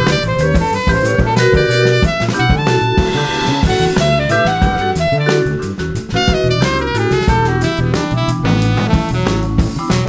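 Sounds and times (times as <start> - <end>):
drum kit with cymbals: 0.0 - 10.0
electric bass: 0.0 - 10.0
saxophone melody: 0.0 - 10.0.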